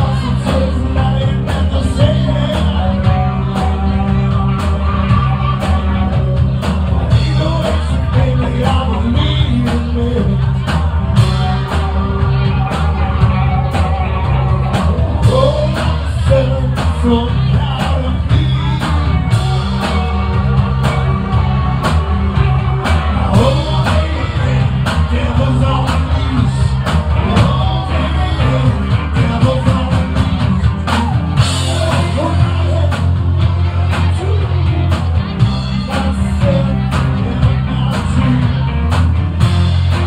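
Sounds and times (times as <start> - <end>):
person singing: 0.0 - 39.0
drums with a steady beat: 0.0 - 40.0
electric guitar: 0.0 - 40.0.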